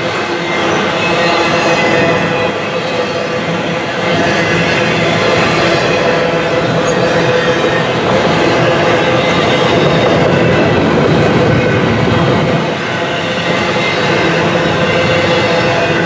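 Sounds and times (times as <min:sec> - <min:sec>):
freight train wheels rumbling and rattling: 0:00.0 - 0:16.0.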